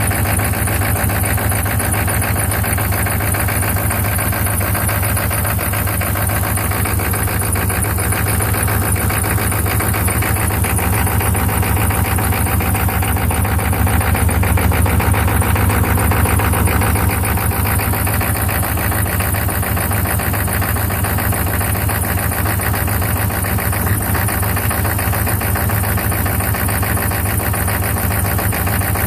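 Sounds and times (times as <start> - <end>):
diesel engine idling roughly: 0.0 - 29.0.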